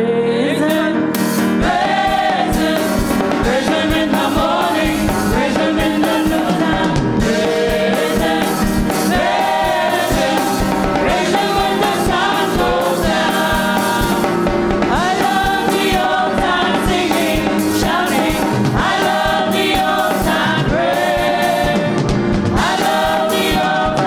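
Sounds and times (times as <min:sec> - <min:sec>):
group singing gospel song: 0:00.0 - 0:24.0
band backing with steady beat: 0:00.7 - 0:24.0.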